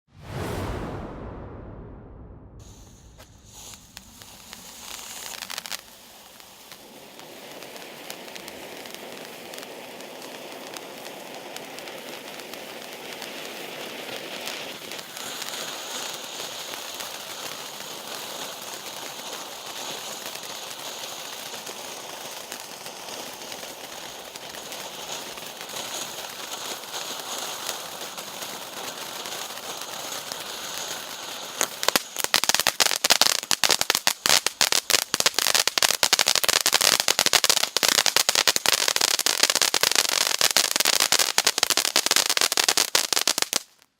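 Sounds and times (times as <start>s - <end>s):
firework fountain hissing sparks: 2.6s - 43.9s.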